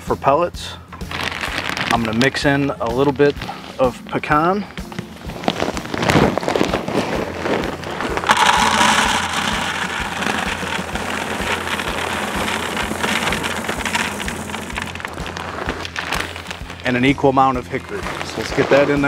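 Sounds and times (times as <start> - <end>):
plastic bag rustling: 1.0 - 2.7, 5.0 - 19.0
pellets rattling into plastic bucket: 1.0 - 3.6, 5.2 - 19.0.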